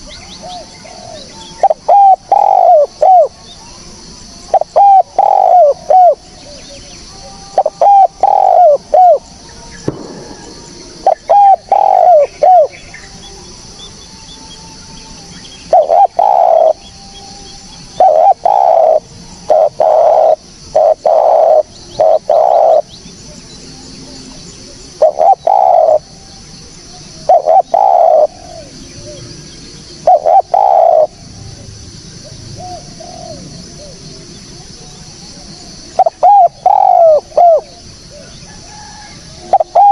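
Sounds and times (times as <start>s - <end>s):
dove cooing: 0.0s - 3.8s, 4.4s - 13.2s, 15.6s - 23.4s, 24.0s - 26.3s, 27.0s - 31.3s, 32.2s - 39.9s
faint high hiss: 0.0s - 39.9s.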